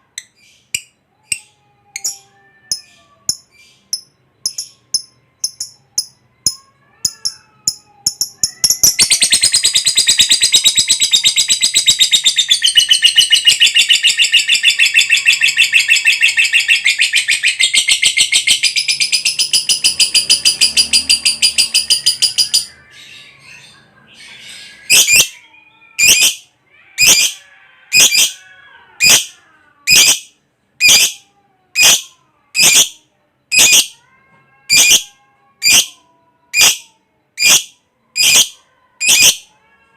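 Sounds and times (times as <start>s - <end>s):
lovebird chirping and trilling: 0.1s - 34.0s, 34.7s - 39.6s.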